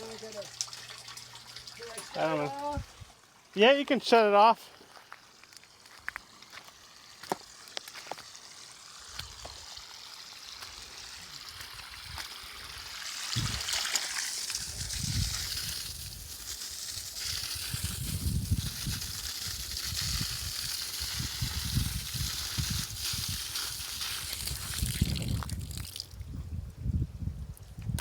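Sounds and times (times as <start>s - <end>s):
water running and splashing: 0.0s - 26.2s.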